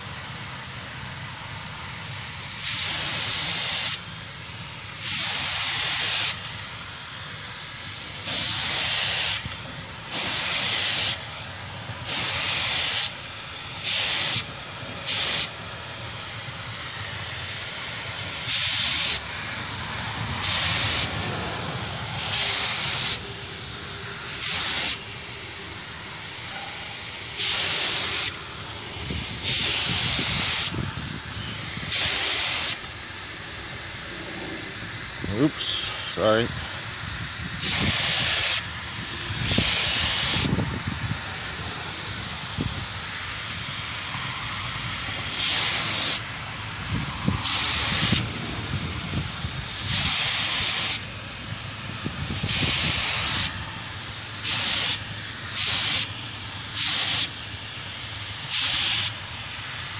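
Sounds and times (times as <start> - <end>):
spray gun hissing bursts: 0.0 - 59.9
steady hiss of air: 0.0 - 59.9.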